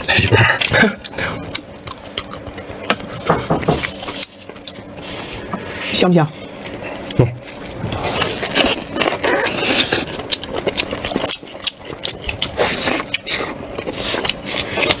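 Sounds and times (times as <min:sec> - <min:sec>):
person chewing and smacking: 0:00.0 - 0:05.6, 0:06.5 - 0:15.0.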